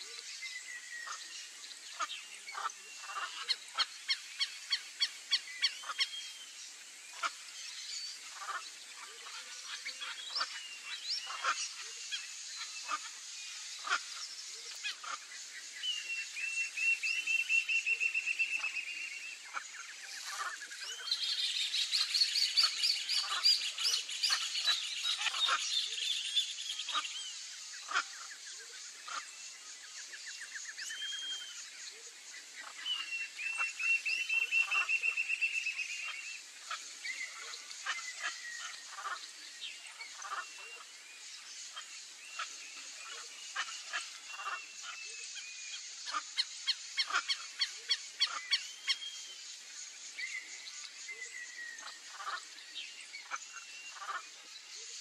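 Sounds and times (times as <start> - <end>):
birds calling: 0.0 - 55.0
trilled bird calls: 0.0 - 55.0.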